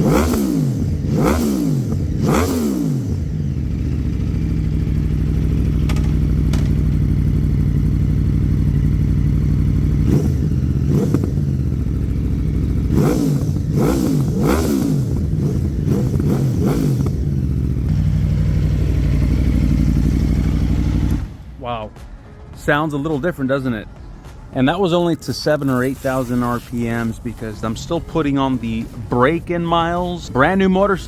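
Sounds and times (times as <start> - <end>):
motorcycle engine idling and revving: 0.0 - 21.6, 27.6 - 31.0.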